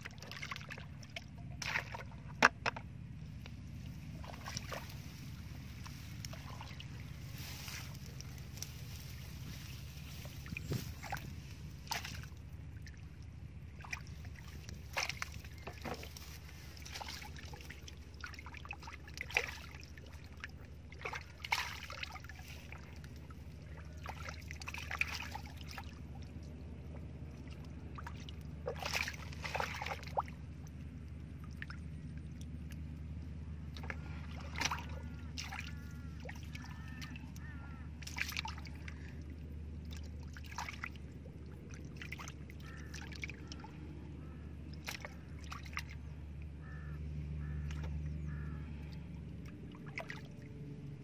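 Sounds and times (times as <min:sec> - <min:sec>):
low hum: 0:00.0 - 0:51.0
splashing in shallow water: 0:00.0 - 0:51.0.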